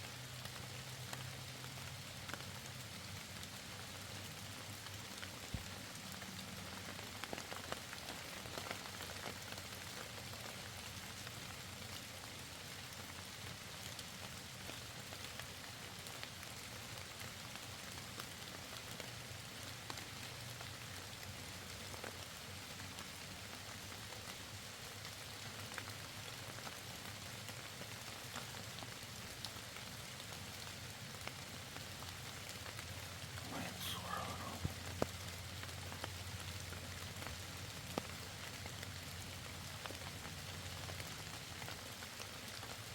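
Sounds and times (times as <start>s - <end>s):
raindrops ticking on surfaces: 0.0s - 42.9s
steady rain hiss: 0.0s - 42.9s.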